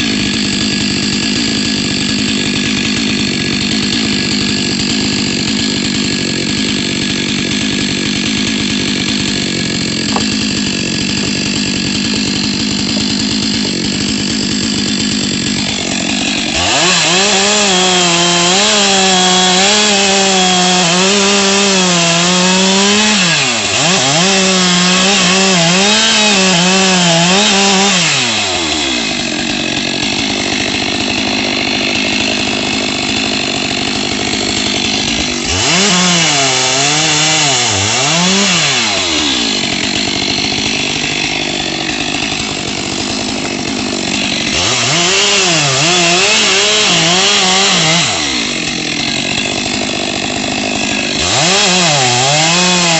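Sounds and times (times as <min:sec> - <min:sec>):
chainsaw running: 0:00.0 - 0:52.9.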